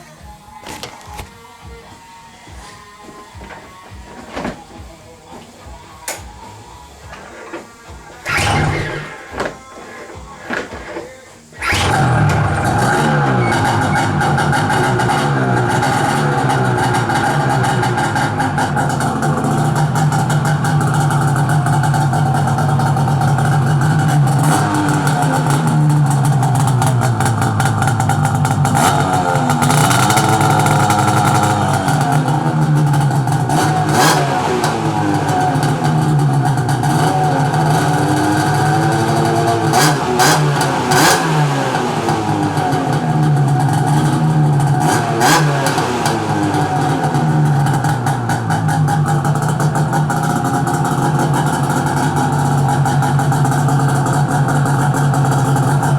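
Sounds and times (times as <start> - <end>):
snowmobile engine idling: 3.3 - 55.9.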